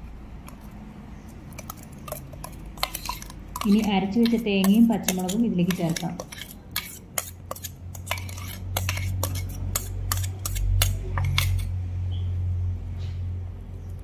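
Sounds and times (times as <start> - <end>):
metal spoon scraping steel pot: 0.5 - 11.8.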